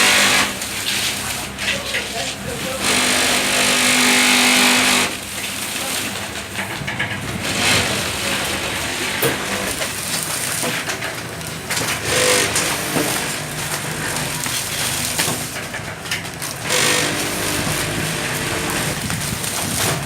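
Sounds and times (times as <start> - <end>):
packing machine running: 0.0 - 20.0.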